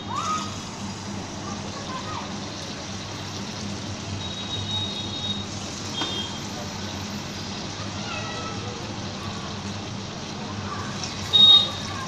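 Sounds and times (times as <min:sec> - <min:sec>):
fritter sizzling in hot oil: 0:00.0 - 0:12.0.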